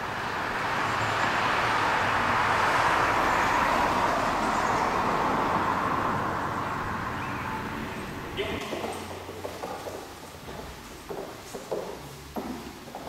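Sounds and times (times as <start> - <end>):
car tyre and road noise: 0.0 - 13.0.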